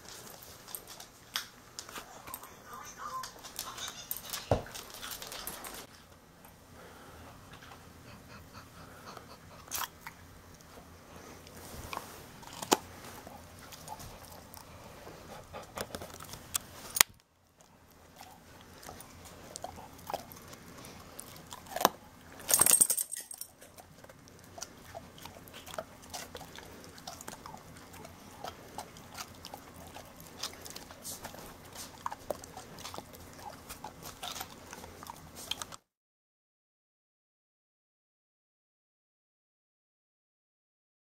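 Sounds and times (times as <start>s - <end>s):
dog crunching carrot: 0.0s - 6.6s, 9.2s - 35.9s.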